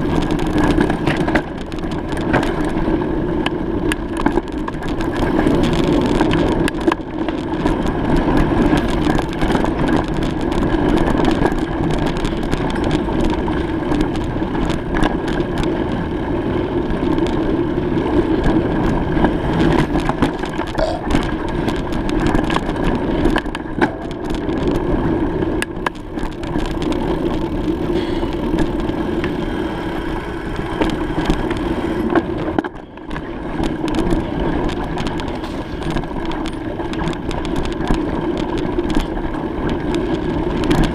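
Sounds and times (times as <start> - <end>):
bicycle tyres rolling on road: 0.0 - 40.9.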